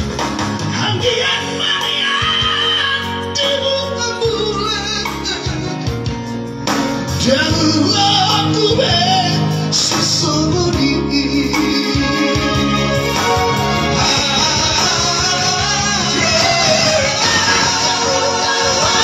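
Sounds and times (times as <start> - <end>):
amplified band backing: 0.0 - 19.0
male vocal trio singing: 0.7 - 6.2, 7.0 - 19.0.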